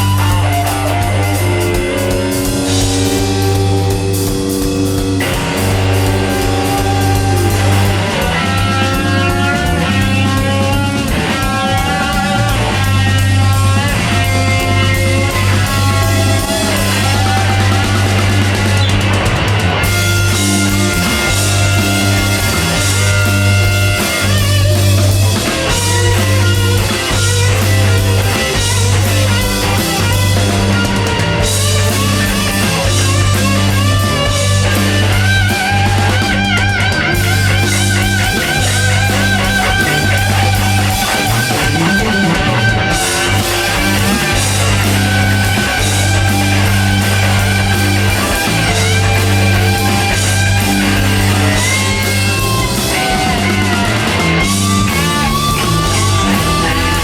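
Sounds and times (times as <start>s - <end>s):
bass guitar: 0.0s - 57.0s
drum kit: 0.0s - 57.0s
electric guitars: 0.0s - 57.0s
rock band playing live: 0.0s - 57.0s.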